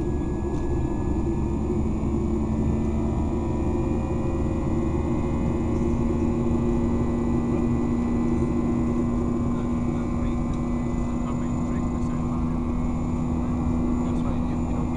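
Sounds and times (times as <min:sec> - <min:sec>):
jet engine drone in cabin: 0:00.0 - 0:14.9.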